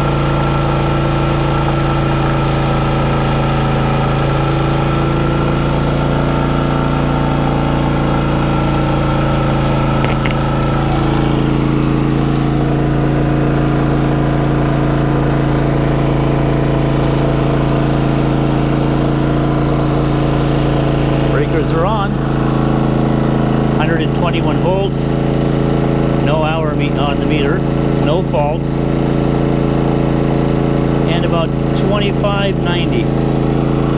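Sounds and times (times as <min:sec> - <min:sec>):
generator running: 0:00.0 - 0:33.9.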